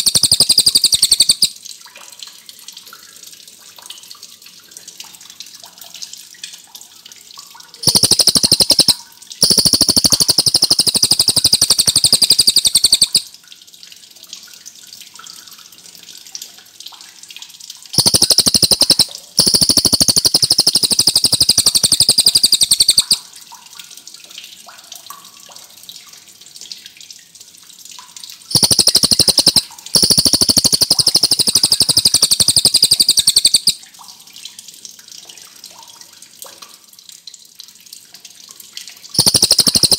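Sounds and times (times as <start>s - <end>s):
faint running water: 0.0s - 39.9s.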